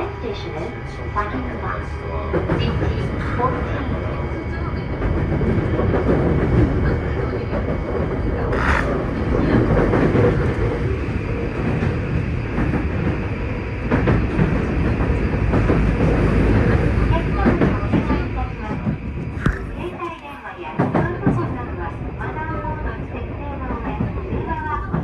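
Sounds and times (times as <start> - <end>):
train wheel-on-rail rumble: 0.0 - 25.0.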